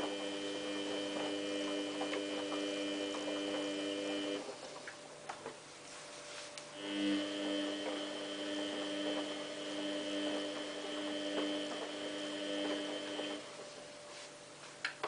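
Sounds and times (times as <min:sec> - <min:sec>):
washing machine humming: 0:00.0 - 0:15.0.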